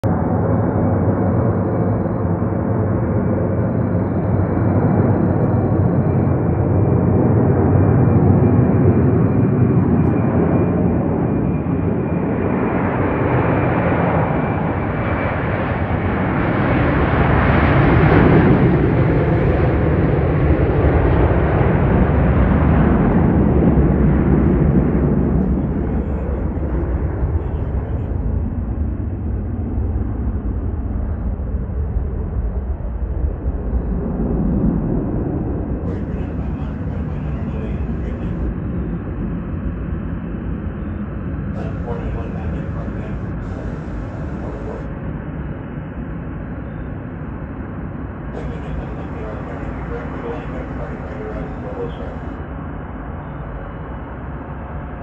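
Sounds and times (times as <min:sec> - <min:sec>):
jet engines at takeoff: 0:00.0 - 0:55.0.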